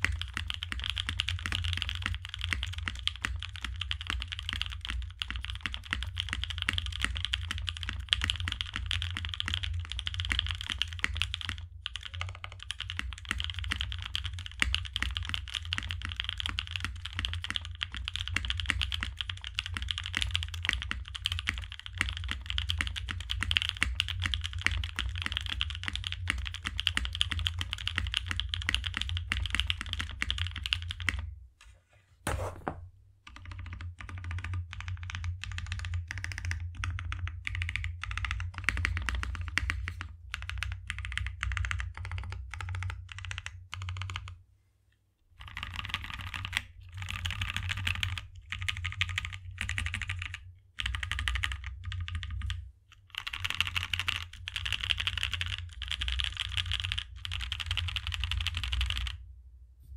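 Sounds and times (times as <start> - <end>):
typing on a mechanical keyboard: 0.0 - 31.3, 33.3 - 44.4, 45.4 - 59.2.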